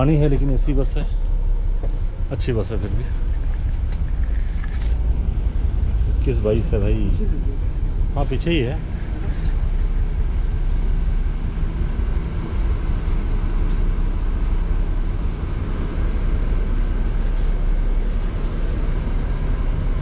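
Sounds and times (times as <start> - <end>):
air conditioning running: 0.0 - 20.0
bus engine rumble: 0.0 - 20.0.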